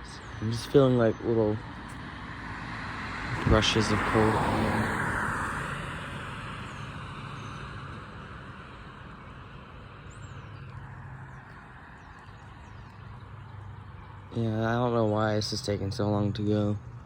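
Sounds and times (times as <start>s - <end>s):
car passing on road: 0.0s - 17.0s.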